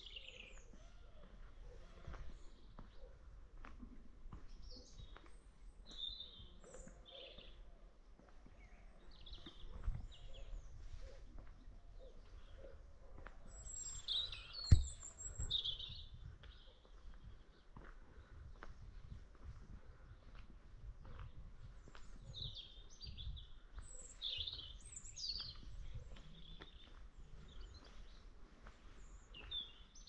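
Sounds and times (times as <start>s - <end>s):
birds chirping: 0.0s - 3.4s, 4.4s - 19.3s, 21.1s - 30.0s.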